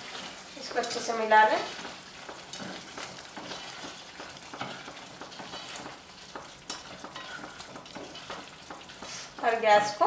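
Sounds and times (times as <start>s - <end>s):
spatula stirring curry in pot: 0.0s - 9.6s
gravy sizzling: 0.0s - 10.0s.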